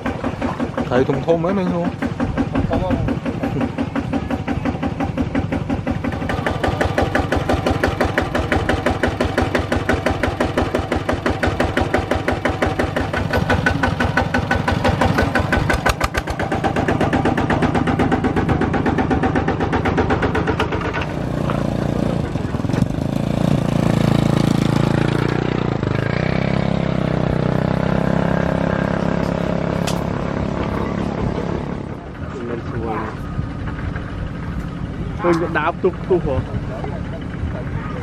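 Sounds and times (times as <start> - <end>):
small engine puttering: 0.0 - 38.0.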